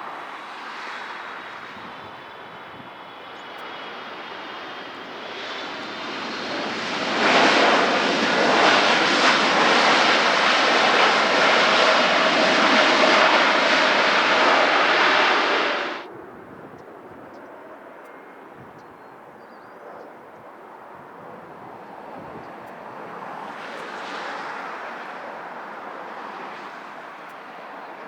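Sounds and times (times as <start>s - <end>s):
jet engines roaring: 0.0s - 18.5s, 20.4s - 28.0s.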